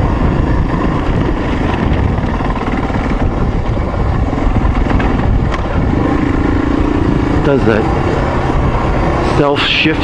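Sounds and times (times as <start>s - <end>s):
motorcycle engine running: 0.0s - 10.0s
wind rush on microphone: 0.0s - 10.0s.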